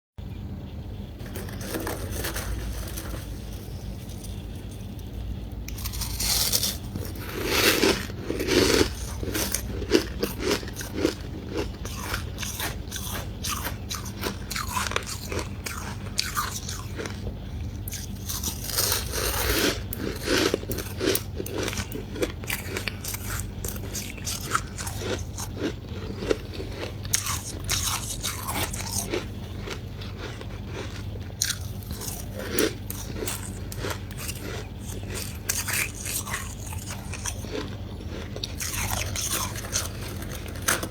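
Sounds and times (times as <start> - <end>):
person crunching ice: 1.2 - 17.2, 17.9 - 40.9.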